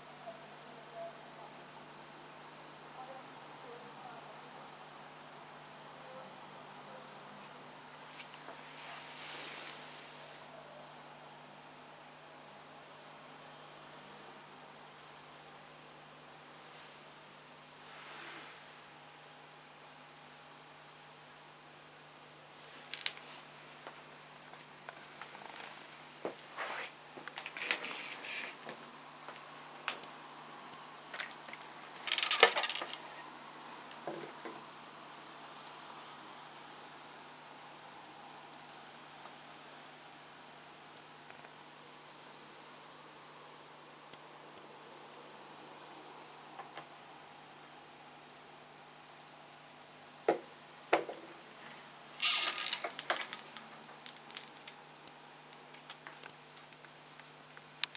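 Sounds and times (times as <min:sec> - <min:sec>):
faint steady hum: 0:00.0 - 0:57.9.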